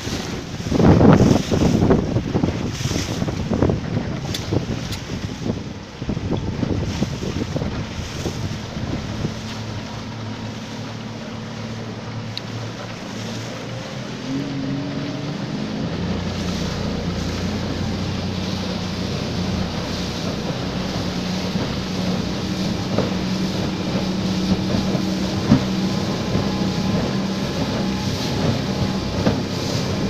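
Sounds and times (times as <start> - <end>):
motorboat engine running: 0.0 - 30.0
water rushing along hull: 0.0 - 30.0
wind buffeting microphone: 0.0 - 30.0.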